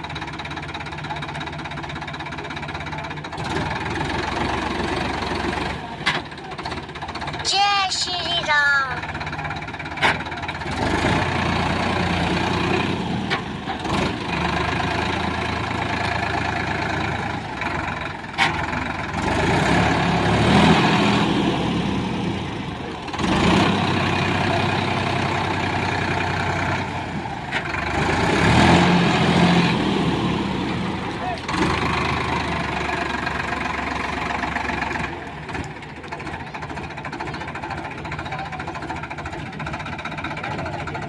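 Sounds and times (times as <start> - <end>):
tractor diesel engine revving: 0.0 - 41.0.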